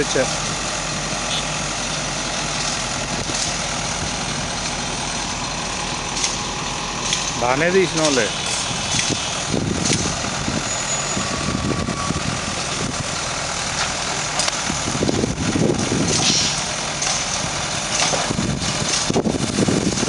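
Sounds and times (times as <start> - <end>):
backhoe digging soil: 0.0 - 20.0
diesel engine running: 0.0 - 20.0.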